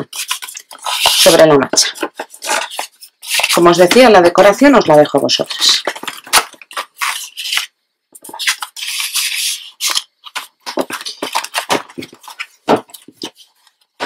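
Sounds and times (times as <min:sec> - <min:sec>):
paper pages rustling: 0:00.0 - 0:14.0.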